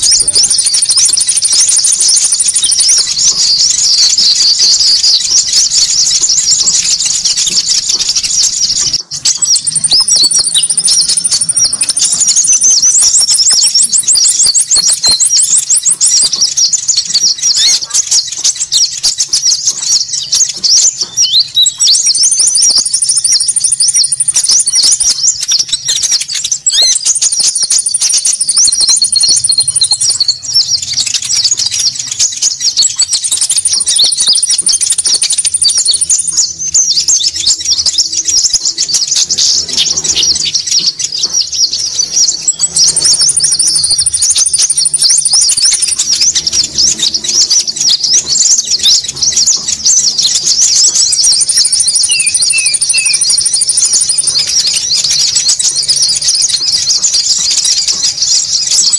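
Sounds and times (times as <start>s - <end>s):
songbirds chattering chirps: 0.0s - 58.9s.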